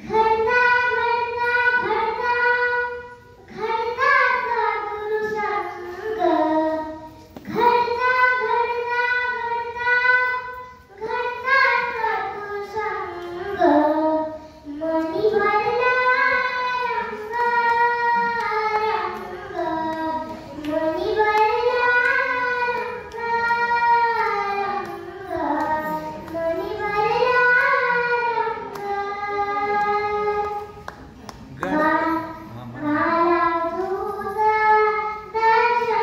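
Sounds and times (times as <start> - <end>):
girl singing: 0.0 - 36.0.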